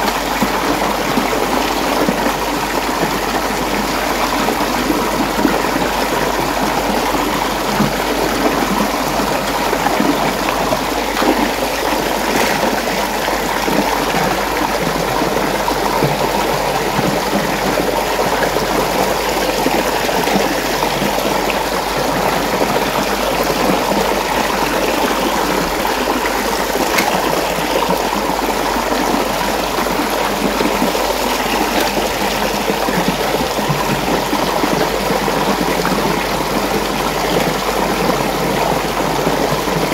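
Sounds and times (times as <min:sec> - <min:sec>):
water churning in whirlpool: 0:00.0 - 0:39.9.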